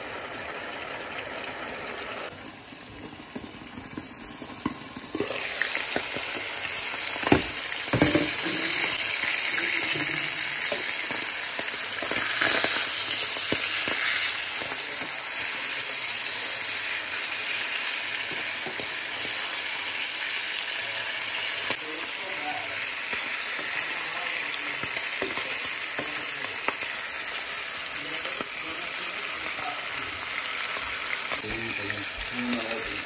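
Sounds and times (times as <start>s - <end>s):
fish sizzling in a pan: 0.0s - 33.0s.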